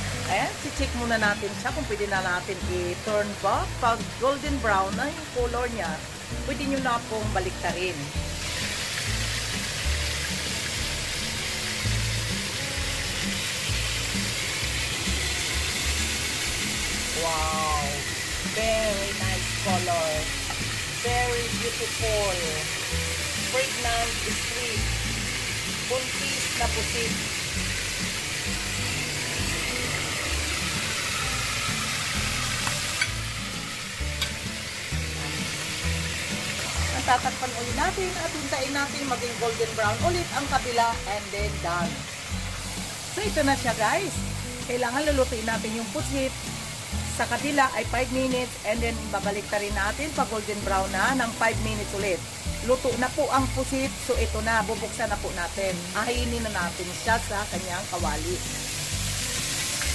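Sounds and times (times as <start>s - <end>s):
squid sizzling in hot oil: 0.0s - 59.9s
background music with bass line: 3.5s - 39.1s, 39.8s - 59.9s.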